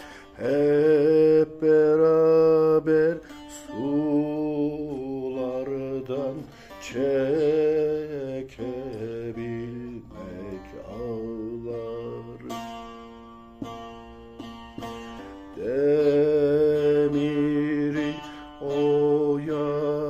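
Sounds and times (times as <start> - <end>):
plucked long-necked lute: 0.0 - 20.0.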